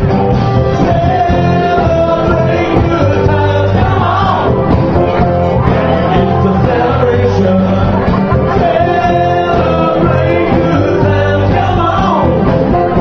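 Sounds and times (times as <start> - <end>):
bass notes: 0.0 - 13.0
live band playing: 0.0 - 13.0
person singing: 0.5 - 13.0.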